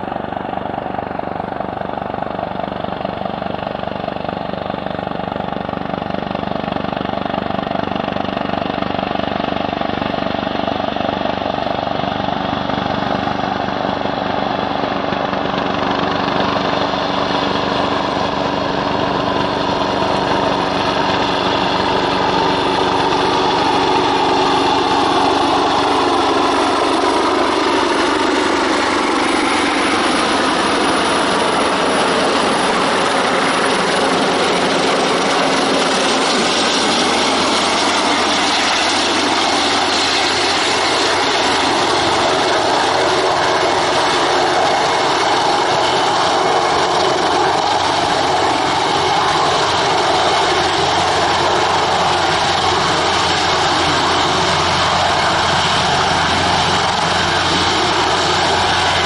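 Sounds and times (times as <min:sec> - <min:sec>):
helicopter engine whine: 0:00.0 - 0:59.0
helicopter rotor rush: 0:00.0 - 0:59.0.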